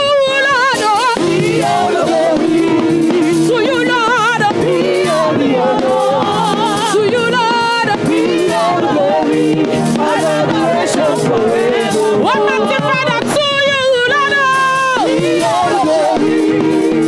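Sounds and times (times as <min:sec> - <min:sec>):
band accompaniment: 0:00.0 - 0:17.0
person singing with vibrato: 0:00.0 - 0:17.0.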